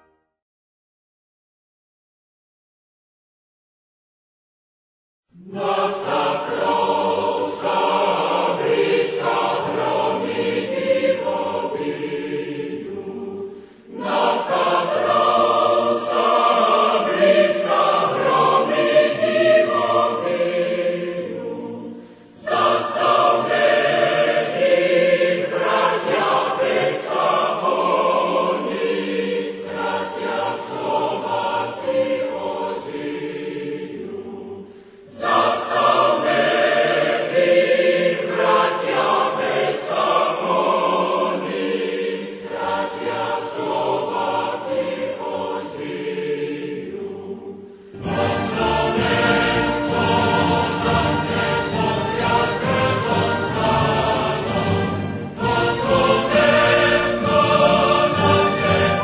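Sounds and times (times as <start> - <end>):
choir singing: 5.3 - 59.0.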